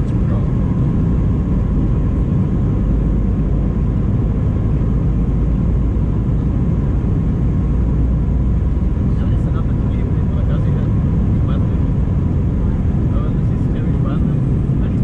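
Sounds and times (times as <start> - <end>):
faint steady whine: 0.0 - 15.0
jet engine cabin rumble: 0.0 - 15.0.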